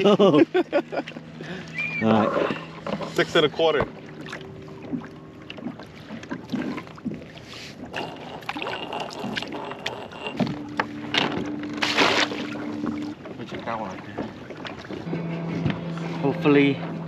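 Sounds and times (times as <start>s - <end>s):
water around a hull: 0.0s - 17.0s.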